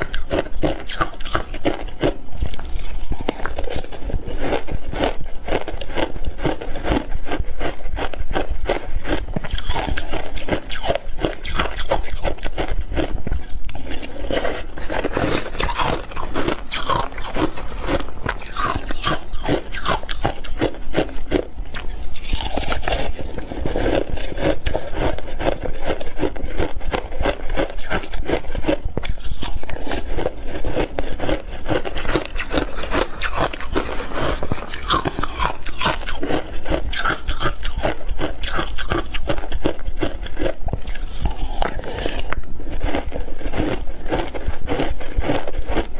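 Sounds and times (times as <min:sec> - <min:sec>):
ice being crunched and chewed: 0:00.0 - 0:45.9.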